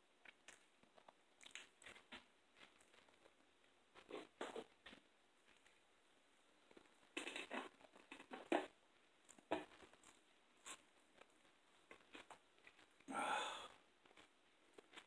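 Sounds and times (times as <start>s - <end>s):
crunching and chewing: 0.2s - 5.8s, 6.6s - 15.0s.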